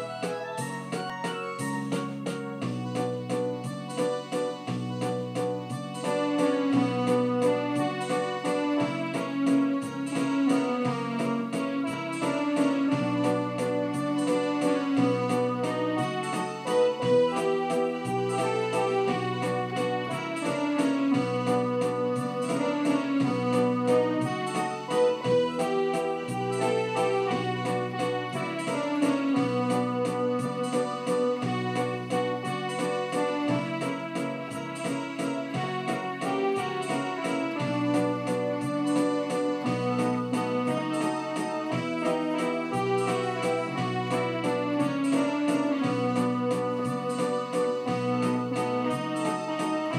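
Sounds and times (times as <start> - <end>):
synthesizer melody with beat: 0.0 - 49.9.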